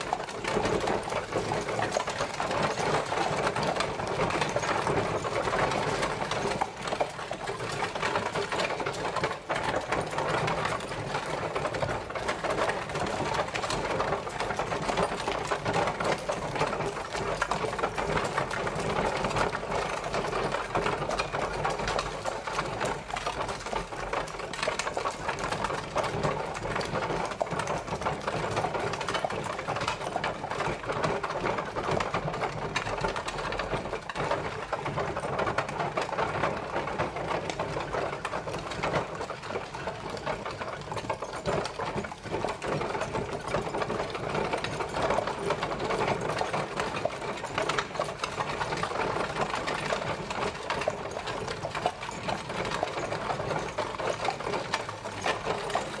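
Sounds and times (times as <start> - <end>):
carriage wheels clattering: 0.0 - 56.0.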